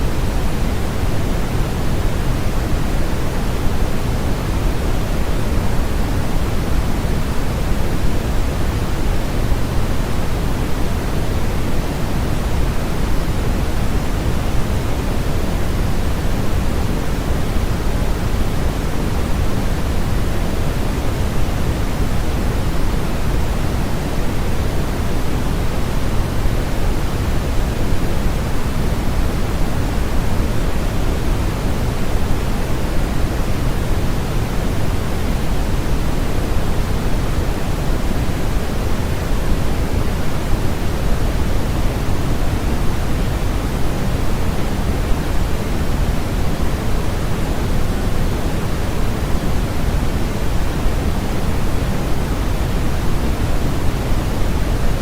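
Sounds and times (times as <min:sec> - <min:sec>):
steady synthetic pink noise: 0:00.0 - 0:55.0.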